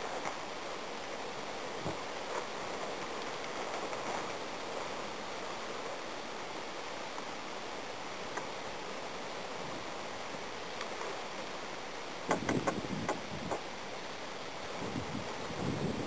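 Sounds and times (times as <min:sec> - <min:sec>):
wind hiss: 0:00.0 - 0:16.0.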